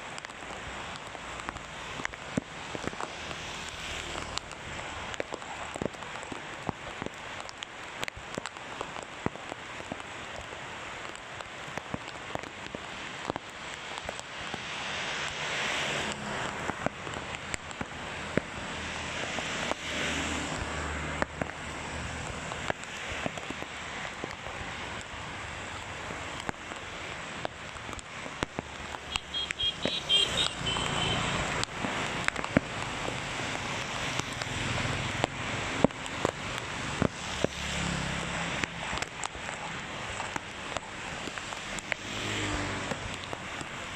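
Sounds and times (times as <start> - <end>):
heavy rain on a road: 0.0 - 43.9
vehicles passing on wet road: 0.0 - 43.9
raindrop taps: 0.1 - 43.9.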